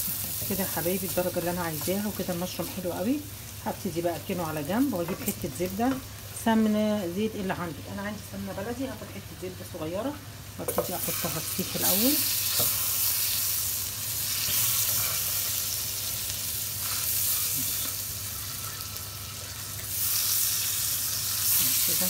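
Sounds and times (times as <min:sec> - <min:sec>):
butter sizzling in a frying pan: 0:00.0 - 0:22.0.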